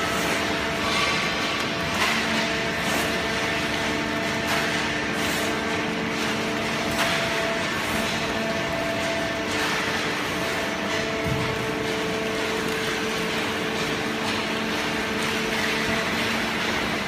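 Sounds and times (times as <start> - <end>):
baler machinery running: 0.0 - 17.0.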